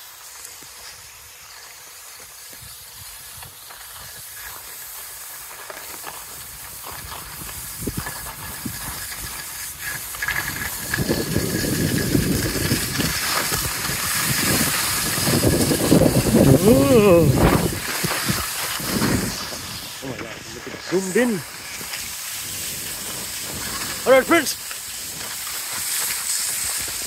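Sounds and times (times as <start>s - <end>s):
skis scraping on snow: 0.0s - 27.0s.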